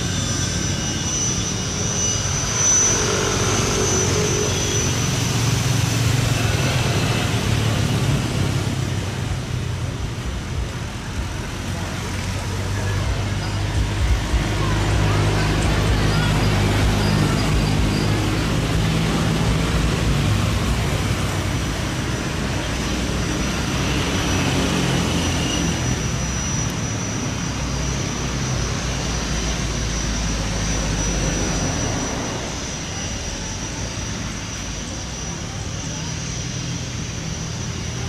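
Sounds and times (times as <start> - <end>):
high thin whine: 0.0 - 38.0
jet engine rushing: 0.0 - 38.0.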